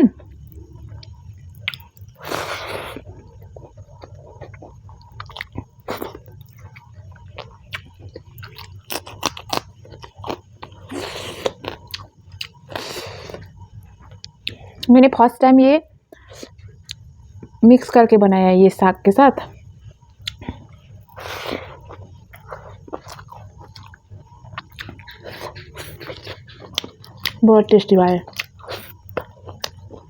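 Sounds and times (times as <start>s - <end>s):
close-up chewing: 0.1s - 14.9s, 19.4s - 30.0s.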